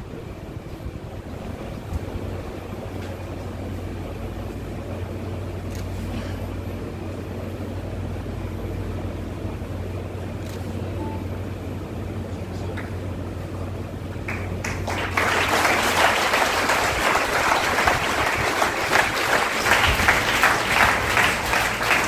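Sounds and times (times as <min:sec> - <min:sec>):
low hum of room noise: 0:00.0 - 0:22.0.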